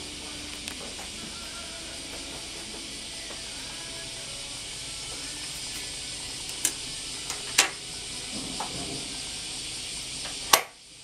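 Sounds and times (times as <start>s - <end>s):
muffled cicada chorus: 0.0s - 11.0s.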